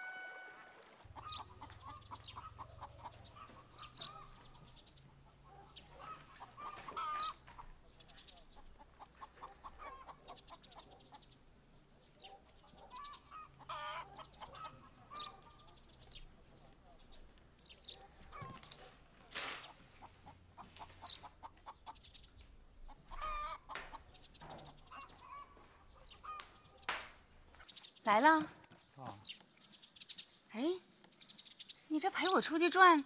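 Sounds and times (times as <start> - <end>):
chickens clucking: 1.0 - 27.7.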